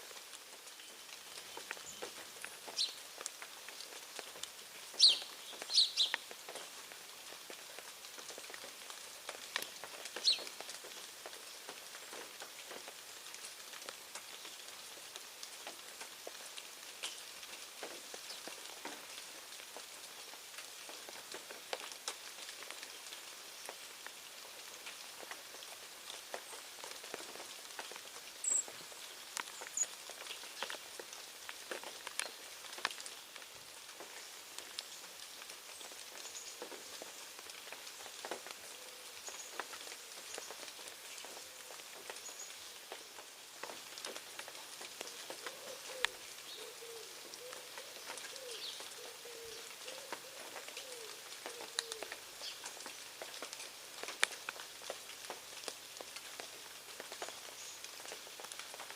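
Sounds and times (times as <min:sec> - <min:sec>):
patter of tiny ticks: 0:00.1 - 0:58.9.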